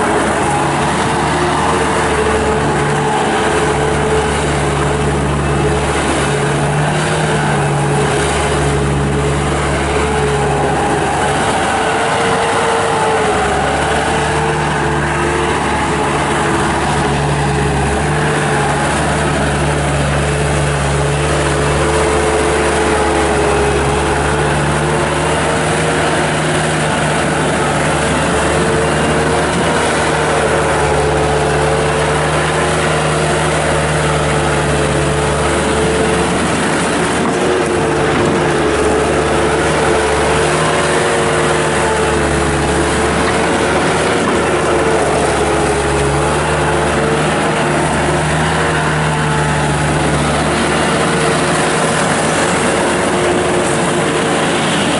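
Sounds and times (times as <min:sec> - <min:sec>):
skid steer diesel engine running: 0:00.0 - 0:54.9.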